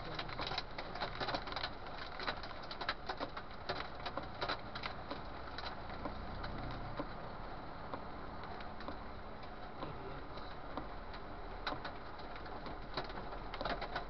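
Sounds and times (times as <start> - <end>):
hailstones striking a vehicle: 0.0 - 7.2, 7.9 - 14.0
road noise: 0.0 - 14.0.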